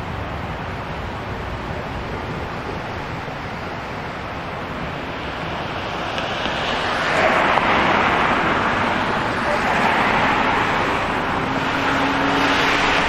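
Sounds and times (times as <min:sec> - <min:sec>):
road traffic hum: 0:00.0 - 0:13.0
vehicle passing: 0:00.6 - 0:13.0.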